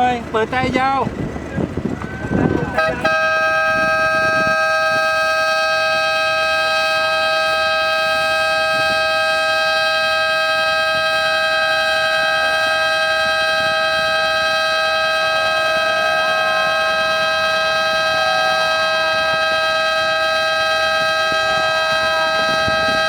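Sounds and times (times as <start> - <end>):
ship's horn blast: 1.1 - 23.0.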